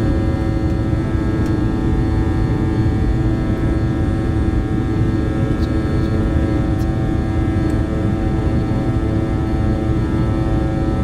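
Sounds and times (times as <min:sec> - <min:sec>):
aircraft cockpit engine drone: 0:00.0 - 0:11.0
steady hum tones: 0:00.0 - 0:11.0.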